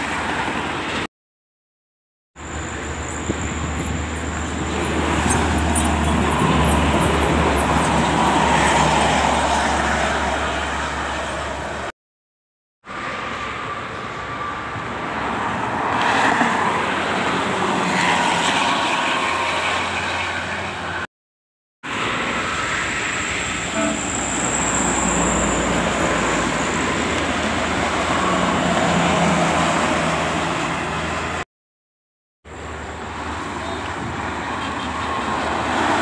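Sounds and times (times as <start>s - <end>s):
buses passing on highway: 0.0s - 1.1s, 2.4s - 12.0s, 12.8s - 21.1s, 21.8s - 31.5s, 32.4s - 36.0s
engine and tyre noise: 2.4s - 11.9s, 12.9s - 21.1s, 21.8s - 31.4s, 32.4s - 36.0s.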